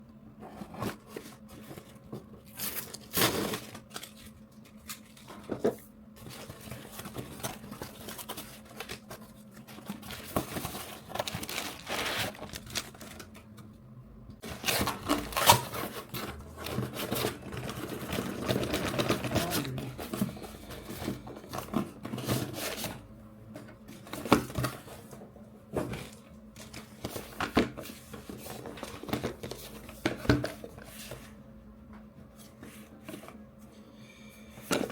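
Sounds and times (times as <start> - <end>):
faint steady hum: 0.0 - 34.9
cardboard and plastic crinkling: 0.5 - 13.6, 14.4 - 23.0, 23.6 - 31.3.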